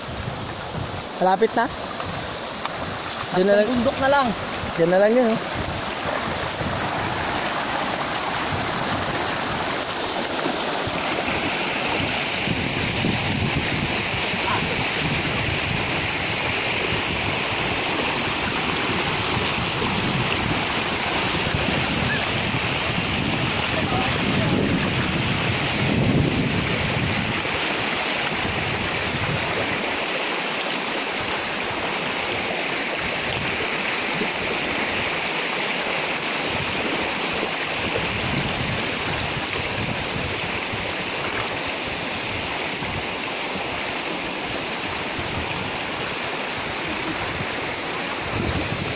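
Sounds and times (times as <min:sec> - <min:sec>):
wind rumbling on microphone: 0:00.0 - 0:30.0, 0:31.2 - 0:35.1, 0:36.4 - 0:48.9
river rushing over stones: 0:00.0 - 0:48.9.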